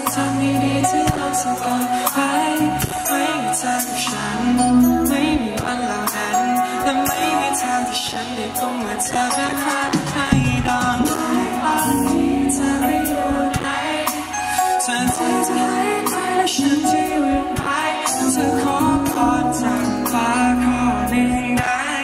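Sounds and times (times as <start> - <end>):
man singing: 0.0 - 22.0
pop-rock band playing: 0.0 - 22.0.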